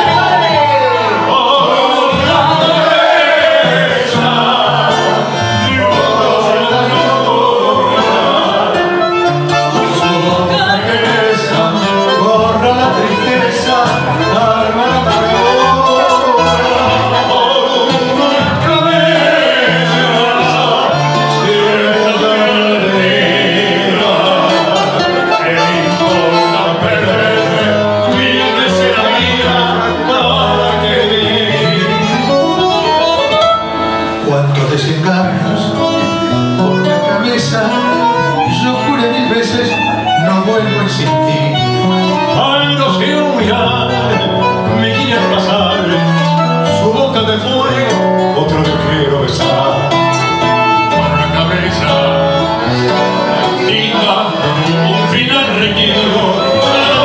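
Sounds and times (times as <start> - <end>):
person singing into a microphone: 0.0 - 32.3, 34.2 - 52.6, 53.5 - 57.0
instrumental accompaniment: 0.0 - 57.0.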